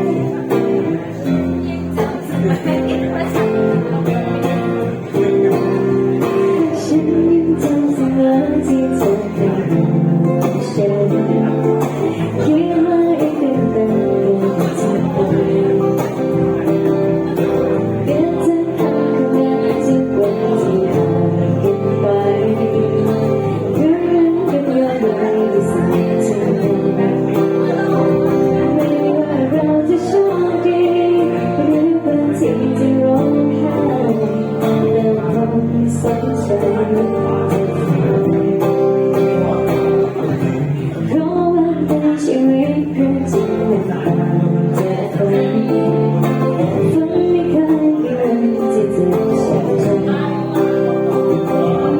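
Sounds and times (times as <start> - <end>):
acoustic guitar strumming: 0.0 - 51.9
person singing: 0.0 - 51.9.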